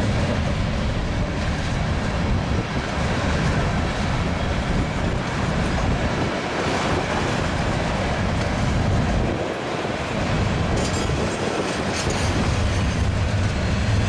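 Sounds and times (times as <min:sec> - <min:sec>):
freight train cars rolling past: 0:00.0 - 0:14.0.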